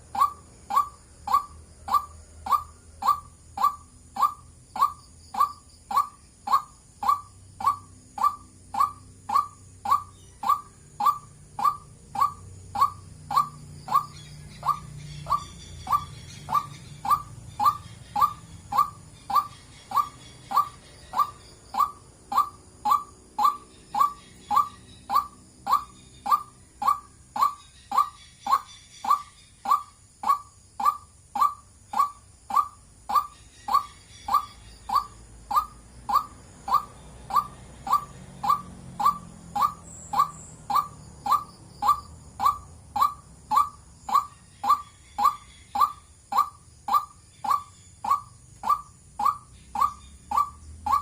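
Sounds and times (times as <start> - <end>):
waterhen calling: 0.0 - 51.0.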